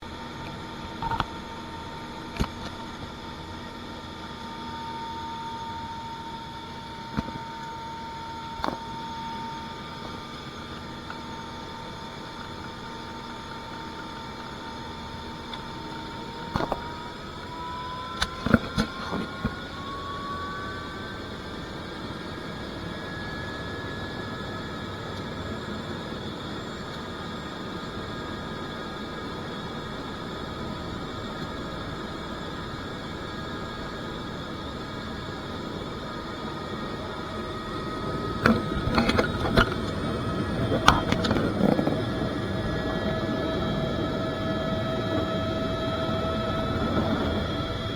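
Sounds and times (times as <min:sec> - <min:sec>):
helicopter engine and rotor drone: 0:00.0 - 0:47.9
rising whine: 0:00.0 - 0:47.9.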